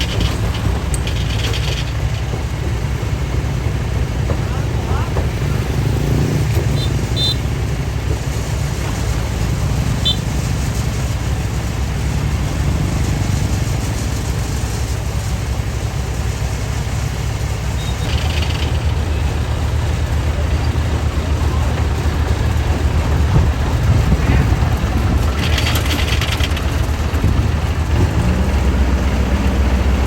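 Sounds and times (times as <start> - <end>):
diesel harvester engine rumbling: 0.0 - 30.0.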